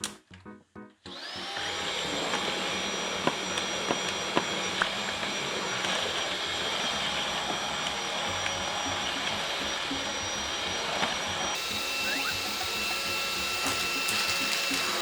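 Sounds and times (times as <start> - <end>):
robot vacuum fan whining: 1.1 - 15.0.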